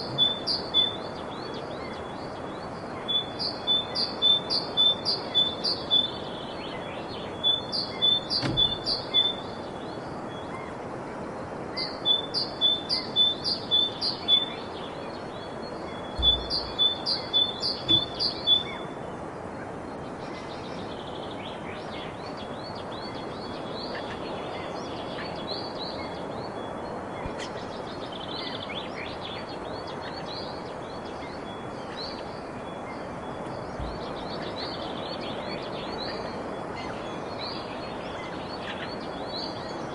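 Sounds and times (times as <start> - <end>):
birds chirping: 0.0 - 39.9
outdoor ambience hiss: 0.0 - 39.9.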